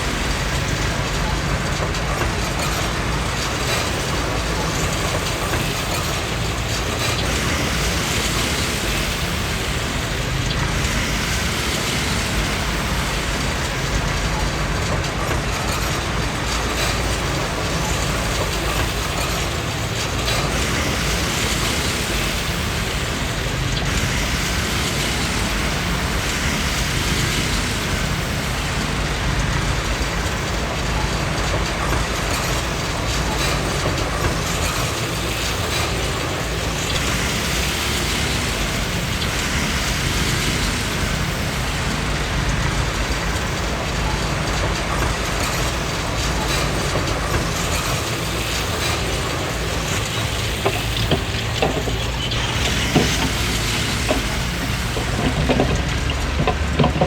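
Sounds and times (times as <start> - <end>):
bulldozer diesel engine running: 0.0 - 57.0
steel tracks clanking: 0.0 - 57.0.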